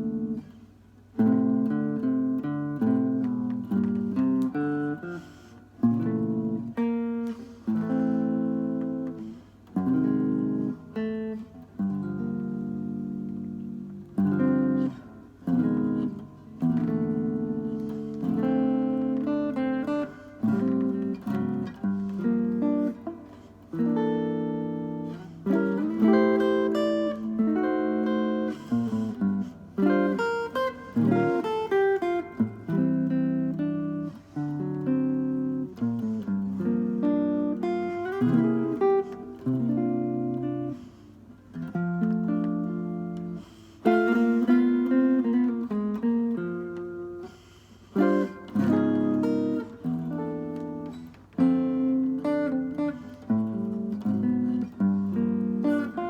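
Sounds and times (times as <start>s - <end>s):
solo acoustic guitar: 0.0s - 56.0s.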